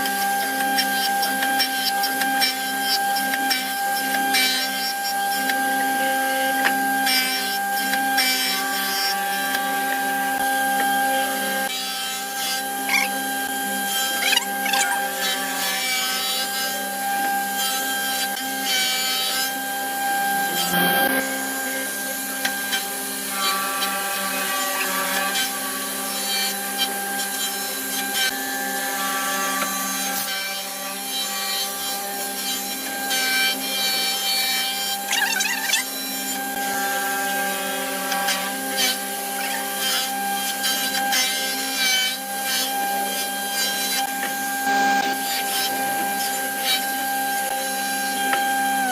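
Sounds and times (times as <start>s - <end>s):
power tool whining: 0.0s - 48.9s.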